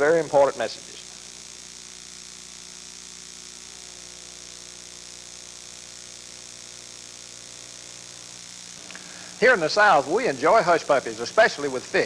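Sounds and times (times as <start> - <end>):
mains hum with buzz: 0.0 - 12.0.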